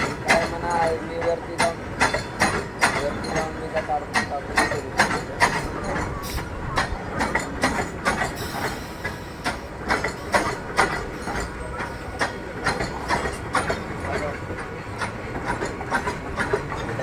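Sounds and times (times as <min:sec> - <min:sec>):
train rumbling: 0:00.0 - 0:17.0
wheels clacking over rail joints: 0:00.0 - 0:17.0.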